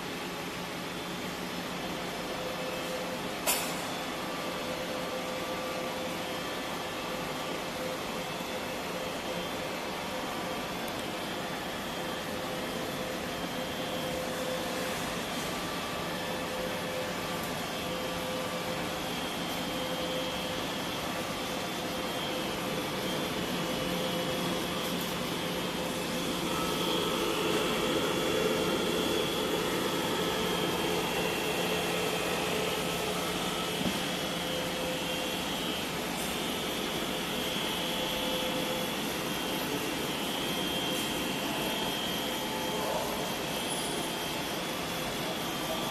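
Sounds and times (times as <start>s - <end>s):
machinery whirring and humming: 0.0s - 45.9s
steady machine tones: 5.5s - 45.9s.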